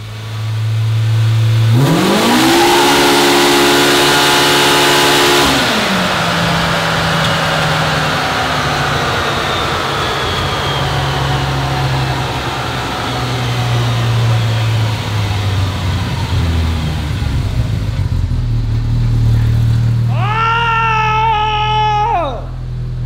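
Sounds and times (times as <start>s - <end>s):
high whine falling in pitch: 0.0s - 16.7s, 20.0s - 23.0s
low engine note: 0.0s - 23.0s.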